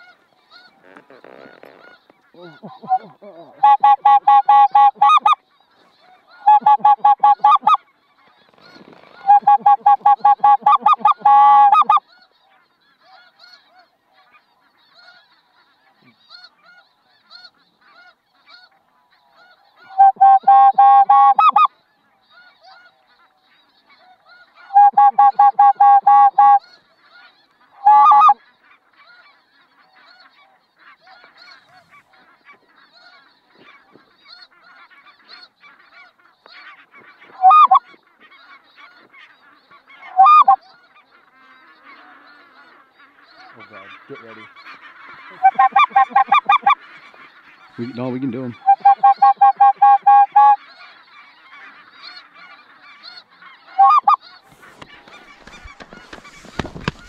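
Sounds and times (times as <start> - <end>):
flock of geese calling faintly: 0.0 - 57.0
geese honking loudly: 0.0 - 57.0.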